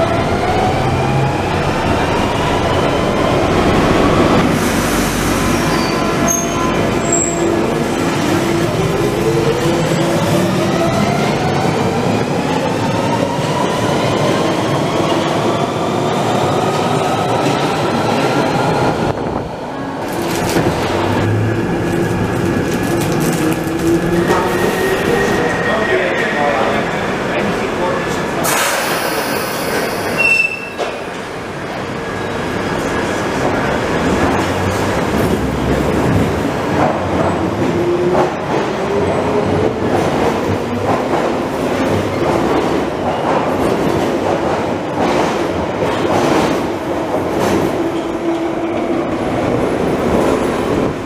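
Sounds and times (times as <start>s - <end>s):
passing train rumble: 0.0s - 51.0s.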